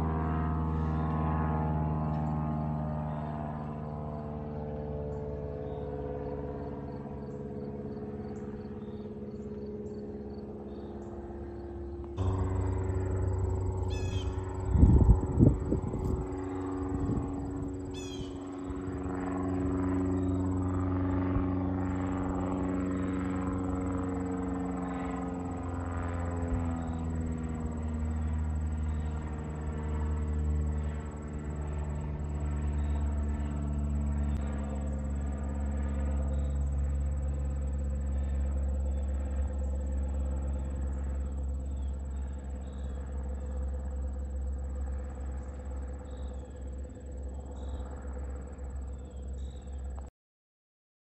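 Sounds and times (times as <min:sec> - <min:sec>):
propeller plane engine drone: 0:00.0 - 0:50.1.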